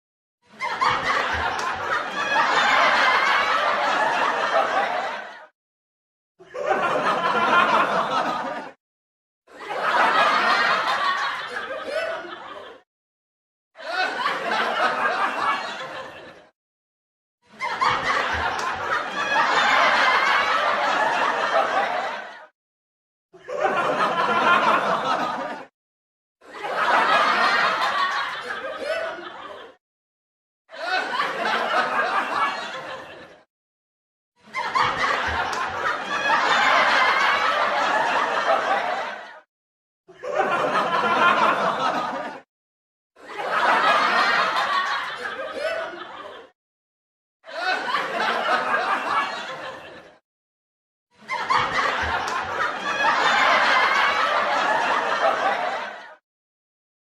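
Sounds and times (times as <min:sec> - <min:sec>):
studio audience laughter: 0:00.5 - 0:05.5, 0:06.4 - 0:08.8, 0:09.5 - 0:12.9, 0:13.8 - 0:16.6, 0:17.5 - 0:22.5, 0:23.4 - 0:25.7, 0:26.4 - 0:29.8, 0:30.6 - 0:33.5, 0:34.4 - 0:39.5, 0:40.1 - 0:42.5, 0:43.2 - 0:46.6, 0:47.4 - 0:50.2, 0:51.2 - 0:56.2.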